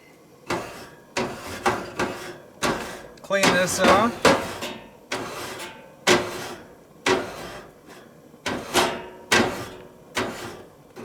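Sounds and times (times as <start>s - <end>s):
scraping on metal cookware: 0.5s - 11.0s.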